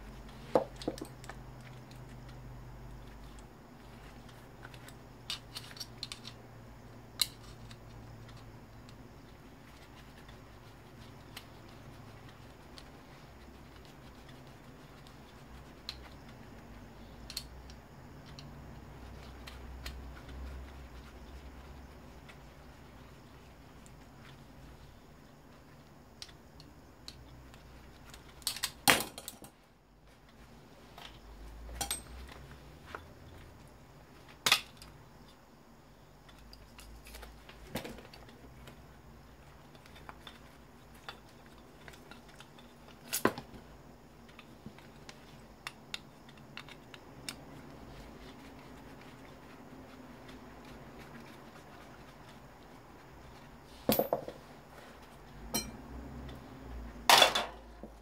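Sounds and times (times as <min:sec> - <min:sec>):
fan parts clicking and clinking: 0:00.2 - 0:24.4, 0:25.8 - 0:29.7, 0:30.9 - 0:33.2, 0:34.2 - 0:35.2, 0:36.2 - 0:58.0.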